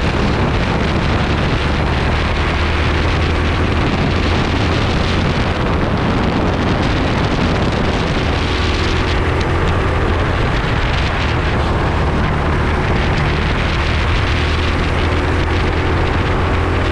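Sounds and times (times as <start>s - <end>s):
kart engine running hard: 0.0s - 16.9s
wind on microphone: 0.0s - 16.9s.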